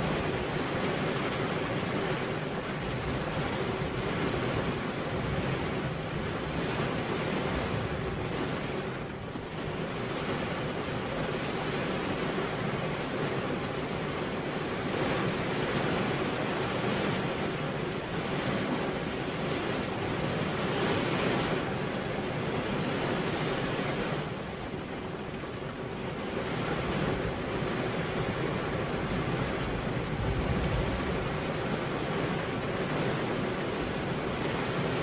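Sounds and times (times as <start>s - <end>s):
rain on a car window: 0.0s - 35.0s.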